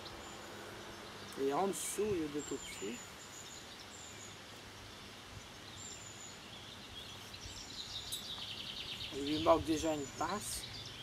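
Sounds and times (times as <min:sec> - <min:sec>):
bird chirps: 0:00.0 - 0:11.0
steady outdoor hiss: 0:00.0 - 0:11.0.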